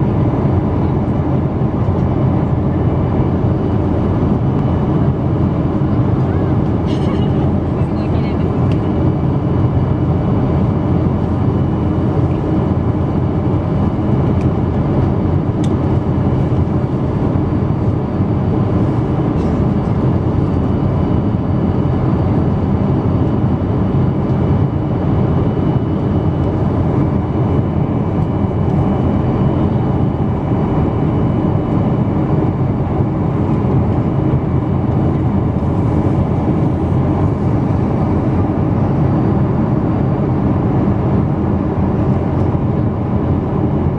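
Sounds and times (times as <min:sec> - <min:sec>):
jet engine cabin drone: 0:00.0 - 0:43.9.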